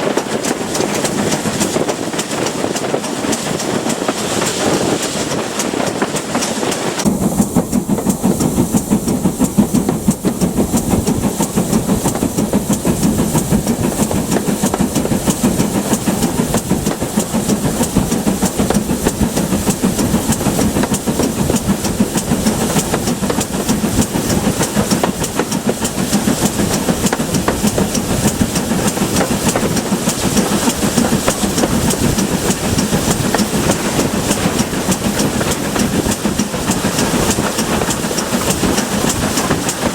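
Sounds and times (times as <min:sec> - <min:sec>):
steam hiss: 0:00.0 - 0:39.9
train wheels clattering on rails: 0:00.0 - 0:39.9.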